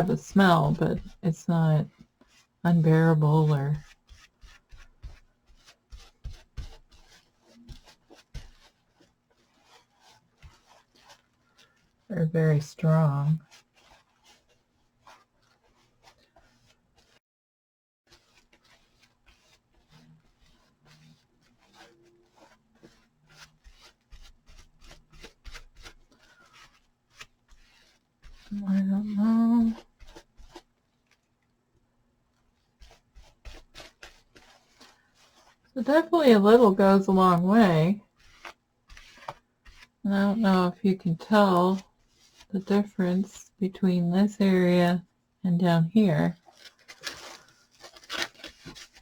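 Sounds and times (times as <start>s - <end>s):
paintbrush scratchy strokes on fabric: 0.0s - 17.2s, 18.1s - 31.4s, 32.3s - 45.4s, 46.2s - 49.0s.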